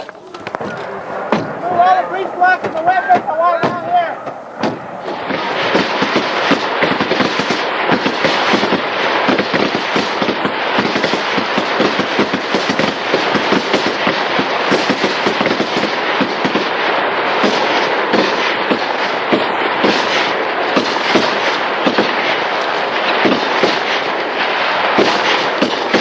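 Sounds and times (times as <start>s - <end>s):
rapid gunfire: 0.2s - 26.0s.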